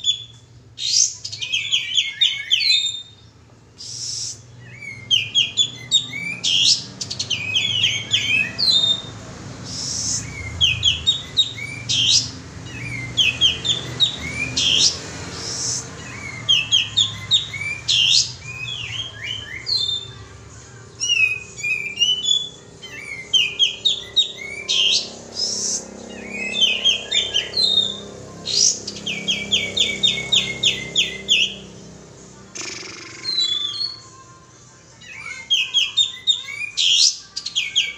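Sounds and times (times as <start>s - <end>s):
bird chirping high notes: 0.0s - 37.9s.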